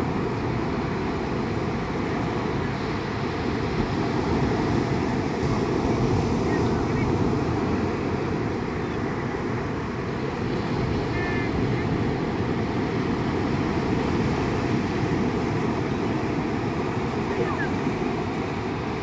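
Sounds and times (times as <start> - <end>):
ocean surf on sand: 0.0 - 19.0.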